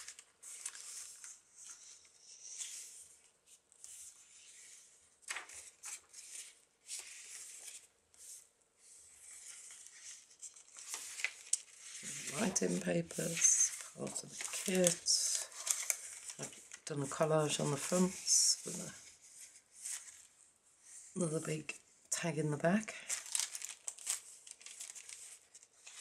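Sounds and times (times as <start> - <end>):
paper pages turning: 0.0 - 20.4, 23.0 - 26.0.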